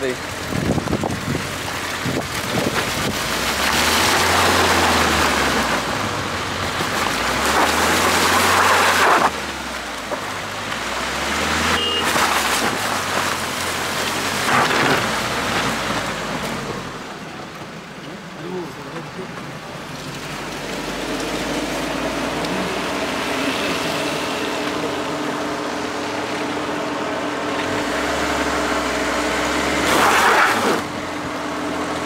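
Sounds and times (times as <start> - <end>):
tyres spinning on snow and ice: 0.0 - 32.0
van engine revving: 0.0 - 32.0.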